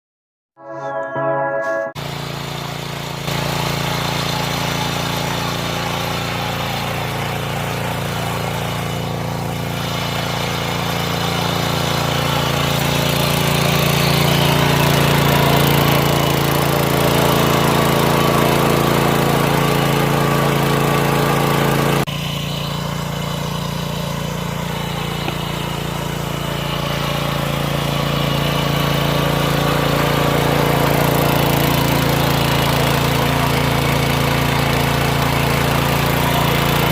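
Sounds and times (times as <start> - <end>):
tiller engine running: 1.3 - 36.9.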